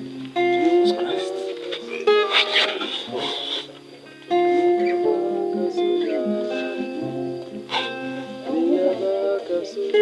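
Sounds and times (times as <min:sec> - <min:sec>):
guitar-led gospel music: 0:00.0 - 0:10.0.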